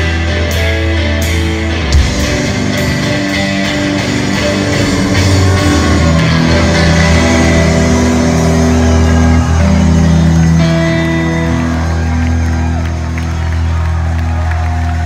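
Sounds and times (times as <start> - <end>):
electric guitar: 0.0 - 15.0
rock band playing loudly: 0.0 - 15.0.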